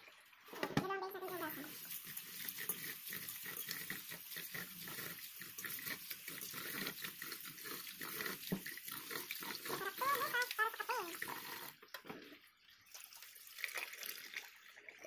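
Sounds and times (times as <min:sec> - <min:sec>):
tap water running into steel bowl: 0:00.0 - 0:15.0.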